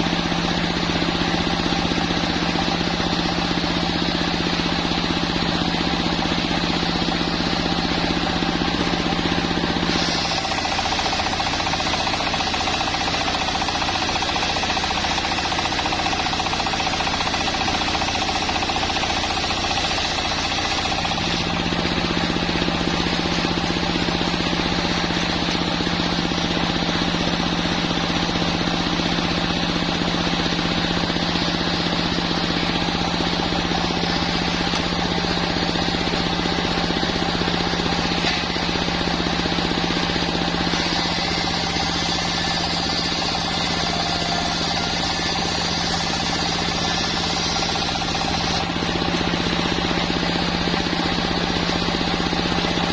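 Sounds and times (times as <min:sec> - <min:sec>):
sawmill sawing a log: 0:00.0 - 0:52.9.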